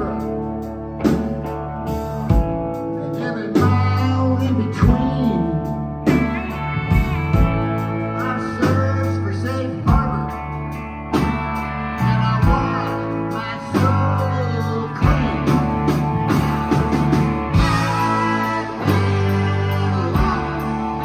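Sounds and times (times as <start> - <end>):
person singing lead vocal: 0.0 - 1.4, 2.8 - 21.0
bass and drums: 0.0 - 21.0
electric guitars: 0.0 - 21.0.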